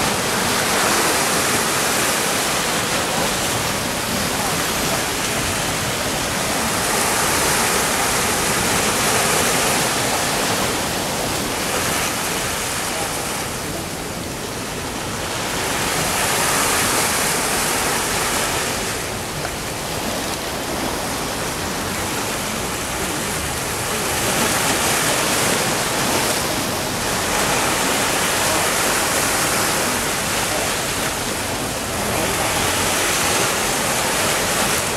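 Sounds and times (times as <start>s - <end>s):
sea waves breaking: 0.0s - 34.9s.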